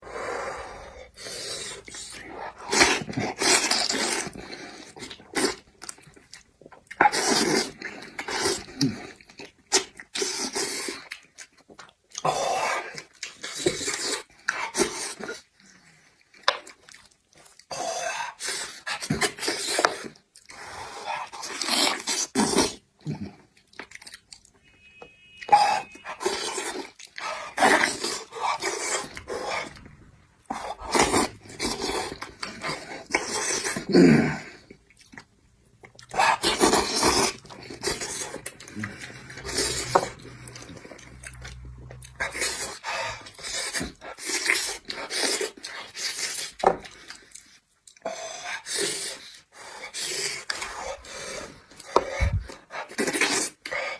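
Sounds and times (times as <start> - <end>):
wet chewing and smacking: 1.2 - 24.8, 25.4 - 53.9.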